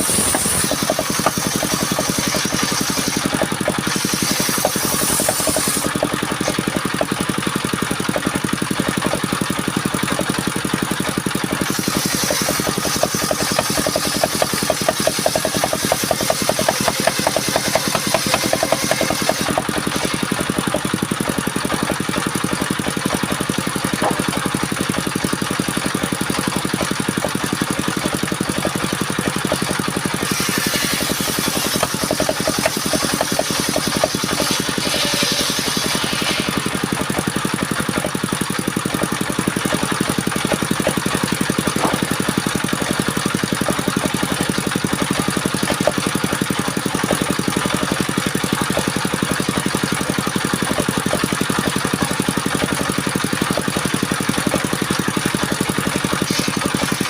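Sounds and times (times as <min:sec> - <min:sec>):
circular saw engine running: 0:00.0 - 0:57.0.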